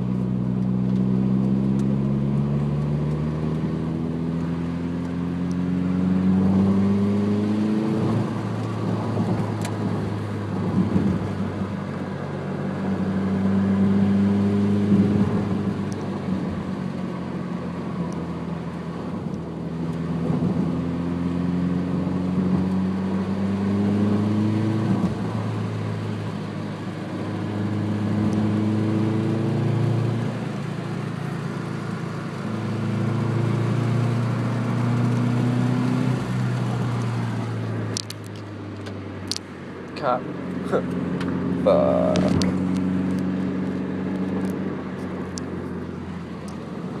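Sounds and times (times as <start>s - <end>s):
car engine accelerating through gears: 0.0s - 47.0s.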